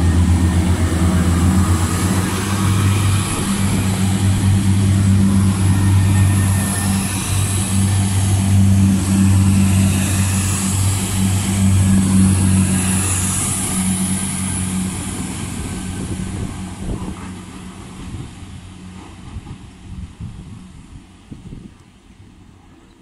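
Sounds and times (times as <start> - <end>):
diesel train engines humming: 0.0 - 23.0.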